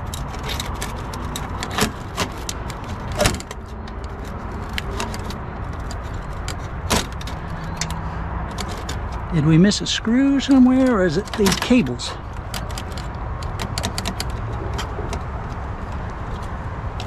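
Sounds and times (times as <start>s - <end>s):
printer parts clicking and rattling: 0.0s - 17.0s.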